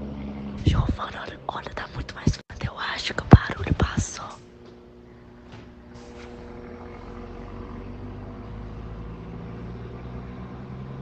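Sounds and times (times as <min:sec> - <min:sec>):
low droning hum of held tones: 0:00.0 - 0:11.0.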